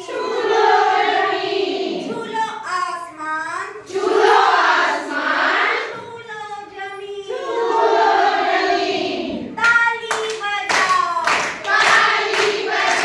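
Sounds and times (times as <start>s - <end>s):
women chanting in unison: 0.0s - 2.4s, 3.8s - 6.3s, 7.2s - 13.0s.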